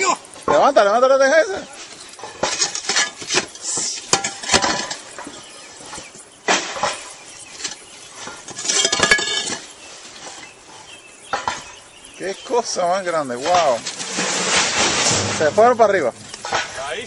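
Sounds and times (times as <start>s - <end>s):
roof tiles clinking: 0.0s - 17.0s.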